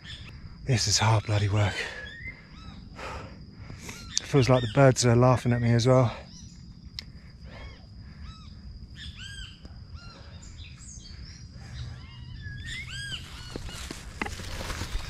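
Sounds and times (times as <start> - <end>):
jungle birds calling: 0.0 - 15.0.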